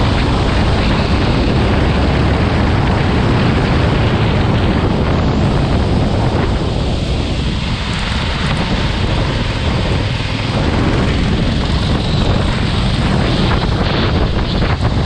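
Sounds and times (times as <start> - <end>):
kart engine: 0.0 - 15.0
wind rushing over microphone: 0.0 - 15.0.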